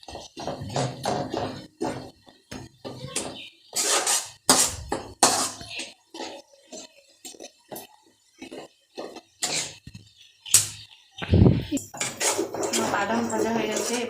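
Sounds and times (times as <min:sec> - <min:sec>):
spatula scraping a cooking pan: 0:00.0 - 0:11.1, 0:11.9 - 0:14.0
peanuts frying in oil: 0:00.0 - 0:14.0.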